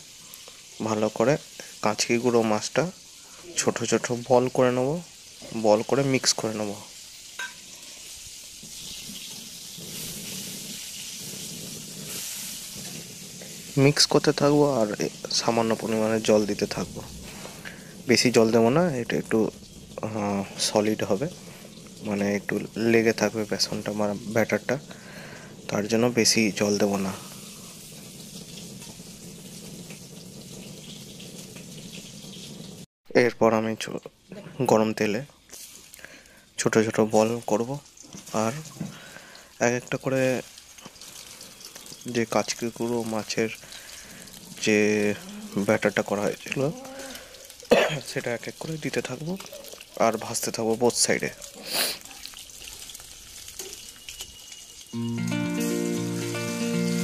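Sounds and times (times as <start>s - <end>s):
water running from a tap: 0.0s - 32.9s, 34.3s - 57.0s.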